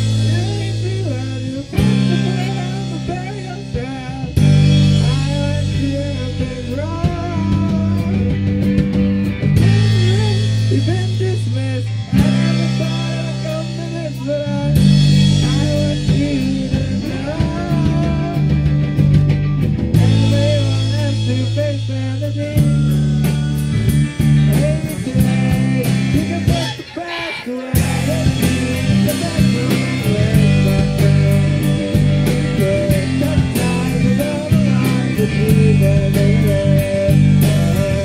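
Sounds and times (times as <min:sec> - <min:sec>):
electric guitars: 0:00.0 - 0:38.0
live rock band playing: 0:00.0 - 0:38.0.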